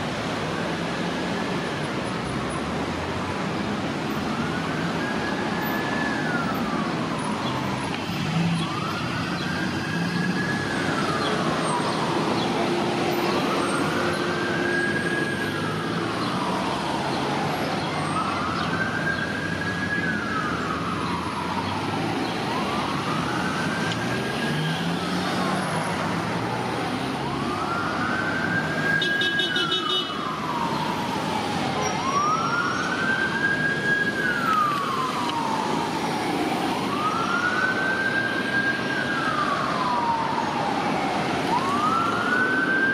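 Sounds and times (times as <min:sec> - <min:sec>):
emergency vehicle siren wailing: 0:00.0 - 0:42.9
street traffic: 0:00.0 - 0:42.9.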